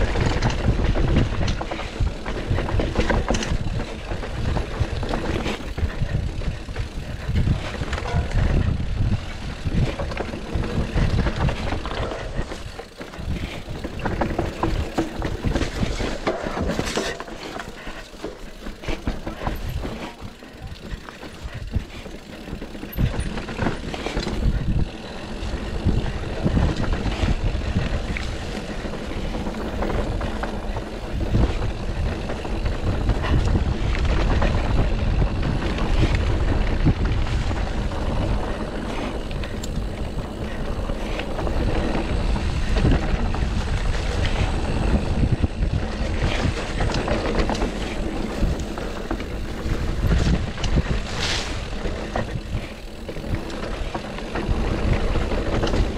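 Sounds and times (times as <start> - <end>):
bike knocks and rattles: 0.0 - 55.9
wind rushing over microphone: 0.0 - 55.9.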